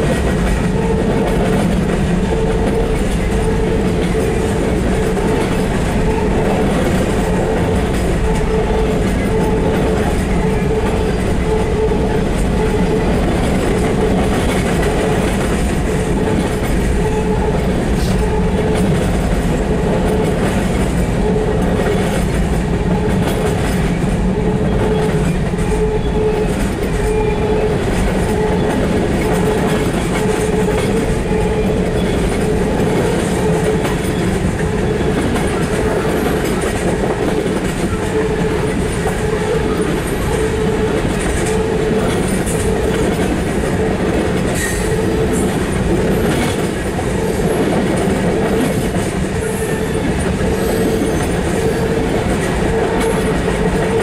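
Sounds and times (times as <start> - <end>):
freight train rumbling: 0.0 - 54.0
wheels clacking on rails: 0.0 - 54.0.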